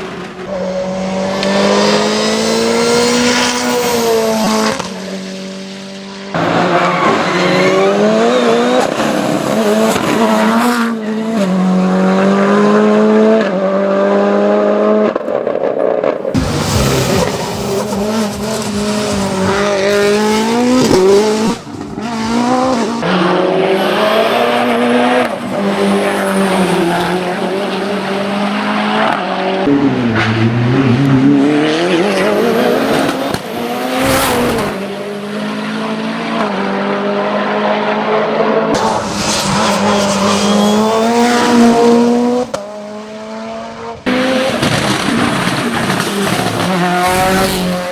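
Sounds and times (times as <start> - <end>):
race car engine revving: 0.1 - 15.2, 15.9 - 47.9.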